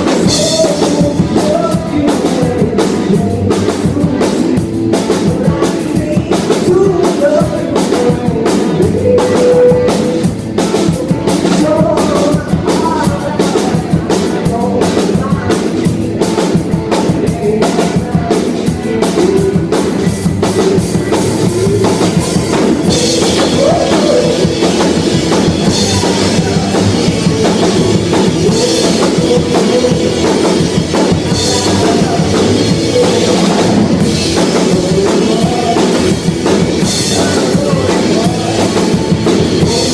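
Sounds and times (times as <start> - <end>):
drum kit beat: 0.0 - 39.9
live rock band playing: 0.0 - 39.9
person singing: 0.0 - 39.9.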